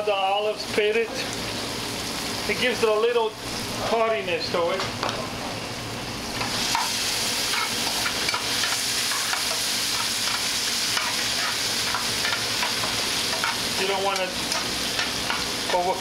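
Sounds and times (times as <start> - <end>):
frying pan sizzling: 0.0 - 16.0.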